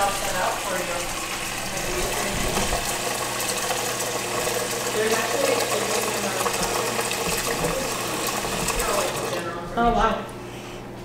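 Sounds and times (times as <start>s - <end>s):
faucet water running into pot: 0.0s - 9.5s.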